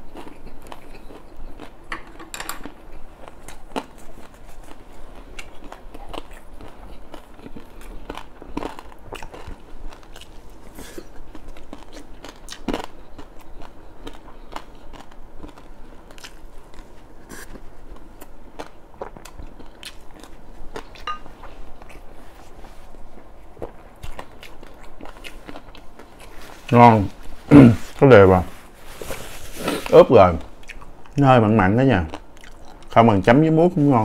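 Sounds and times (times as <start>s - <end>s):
chewing crispy fried fish: 0.0s - 28.4s, 32.0s - 33.4s.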